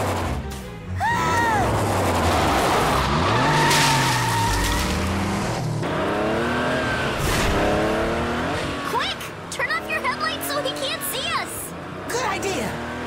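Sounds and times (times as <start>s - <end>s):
cartoon car engine revving: 0.0s - 13.0s
cartoon tyres skidding: 1.0s - 13.0s.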